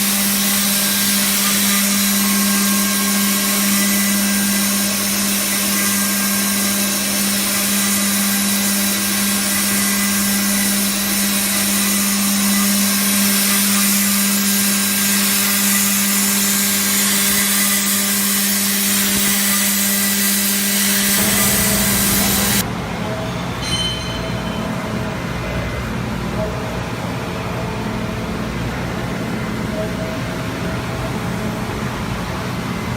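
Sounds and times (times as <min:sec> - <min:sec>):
milling machine humming: 0:00.0 - 0:32.9.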